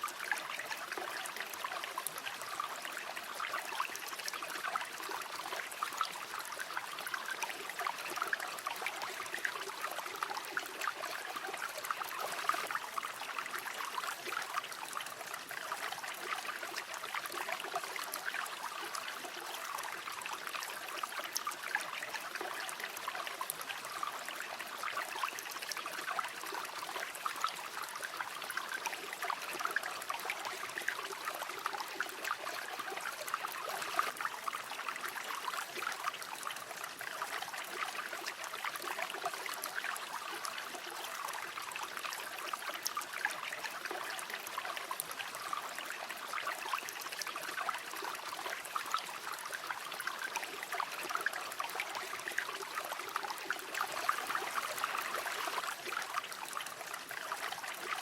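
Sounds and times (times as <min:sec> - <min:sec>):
water babbling over stones: 0:00.0 - 0:58.0.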